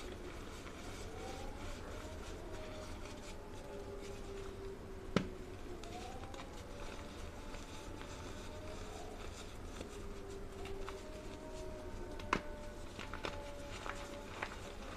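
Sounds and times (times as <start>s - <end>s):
dogs howling: 0.0s - 14.9s.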